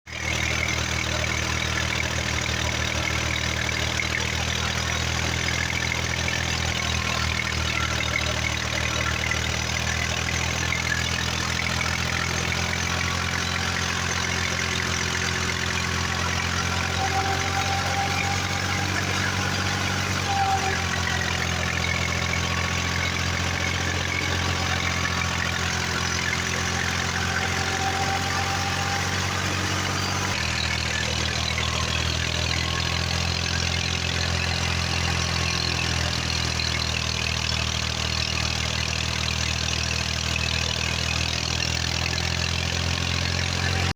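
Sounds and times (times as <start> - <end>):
tractor engine idling: 0.0 - 43.9.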